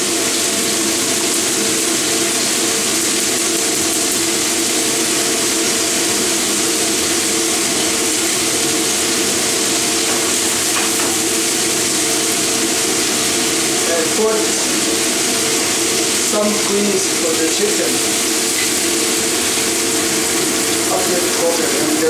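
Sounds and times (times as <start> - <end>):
chicken sizzling in a frying pan: 0.0 - 22.0.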